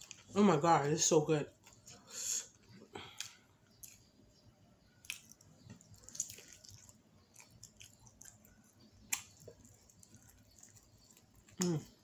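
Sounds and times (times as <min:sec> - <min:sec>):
faint chewing of fried chicken: 0:01.5 - 0:12.0.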